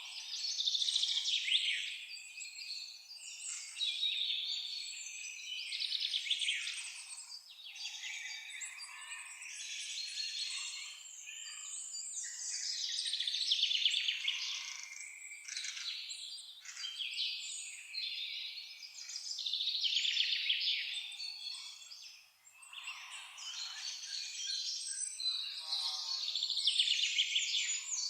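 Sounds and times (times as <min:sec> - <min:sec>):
songbirds singing and chirping: 0:00.0 - 0:28.0.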